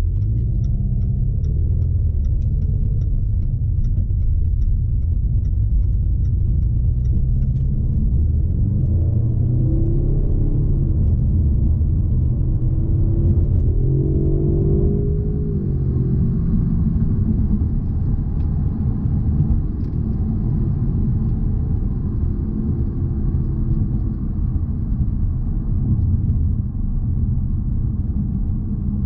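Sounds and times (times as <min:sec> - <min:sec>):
car engine hum: 0:00.0 - 0:29.0
road rumble: 0:00.0 - 0:29.0.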